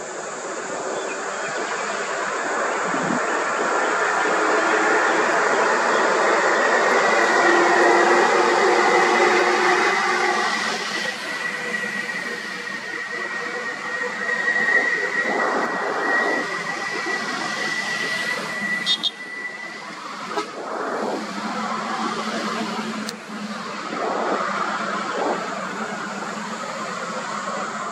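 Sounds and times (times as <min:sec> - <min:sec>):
steady high-pitched tone: 0:00.0 - 0:27.9
diesel bus engines passing: 0:01.6 - 0:27.9.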